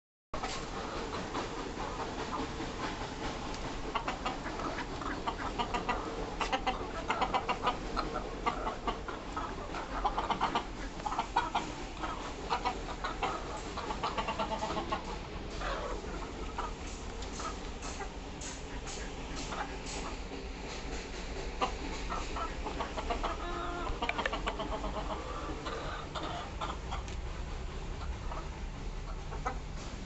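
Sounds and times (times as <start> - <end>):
chickens clucking: 0.4 - 30.0
low background hum: 0.4 - 30.0.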